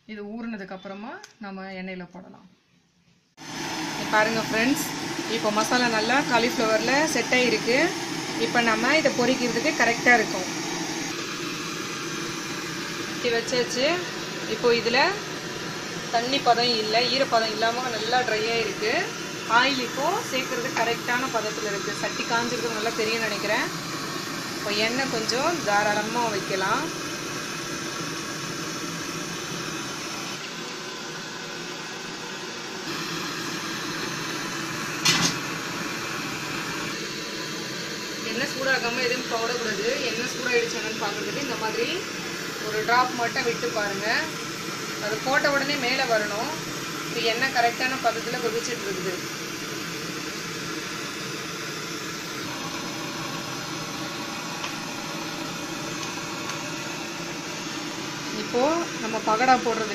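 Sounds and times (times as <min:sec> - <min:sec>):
gas burner hissing: 0:03.3 - 0:59.9.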